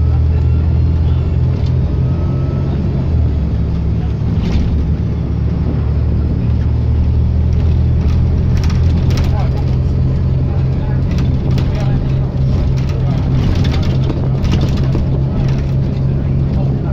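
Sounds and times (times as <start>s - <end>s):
bus diesel engine running: 0.0s - 16.9s.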